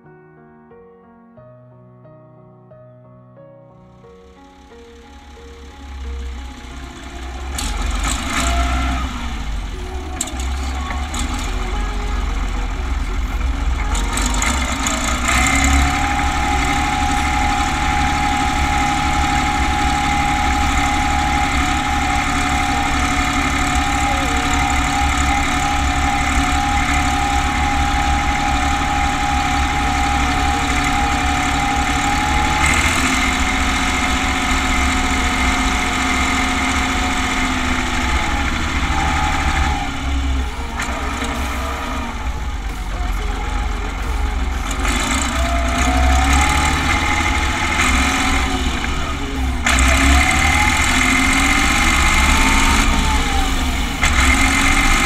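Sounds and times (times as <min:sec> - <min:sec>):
engine whine: 0:04.2 - 0:55.0
tractor diesel engine running: 0:04.2 - 0:55.0.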